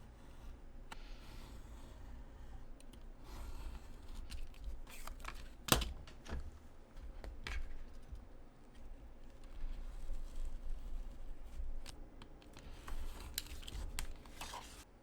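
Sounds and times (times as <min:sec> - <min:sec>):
hands handling craft materials: 0:02.8 - 0:15.0.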